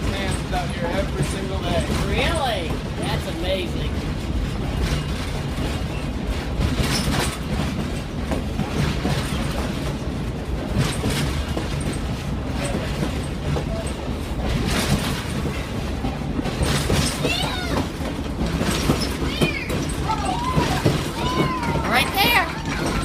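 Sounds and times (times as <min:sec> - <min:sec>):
rattling clacks: 0:00.0 - 0:23.0
train wheels rumbling on rail: 0:00.0 - 0:23.0.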